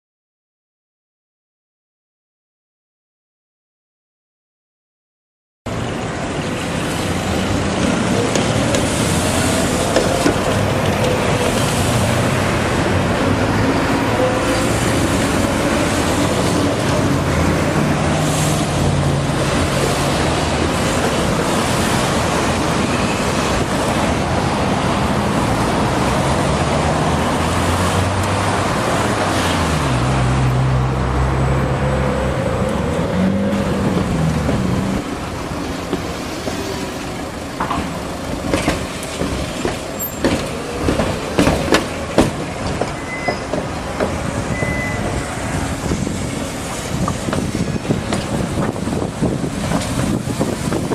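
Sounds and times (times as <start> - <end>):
tram motor hum: 5.7 - 29.5, 30.4 - 50.9
street noise: 5.7 - 50.9
tram rolling noise: 5.7 - 50.9.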